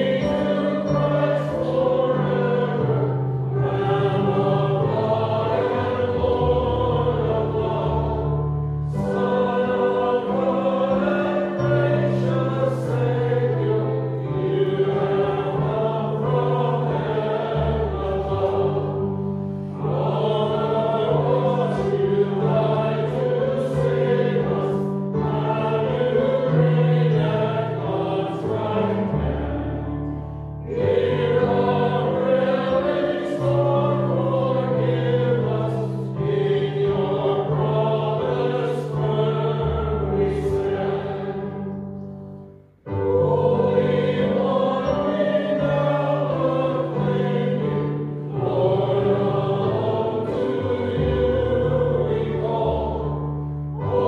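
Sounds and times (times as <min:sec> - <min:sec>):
keyboard accompaniment: 0:00.0 - 0:54.0
voices singing a hymn: 0:00.0 - 0:54.0.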